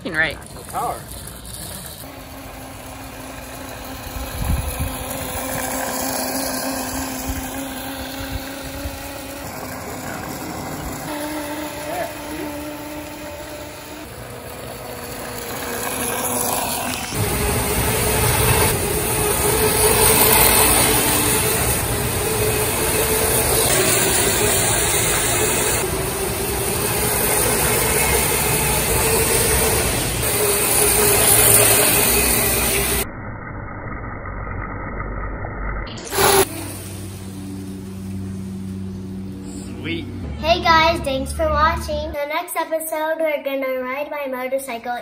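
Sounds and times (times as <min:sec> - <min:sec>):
electric motor whine: 0:00.0 - 0:33.1, 0:35.9 - 0:40.4.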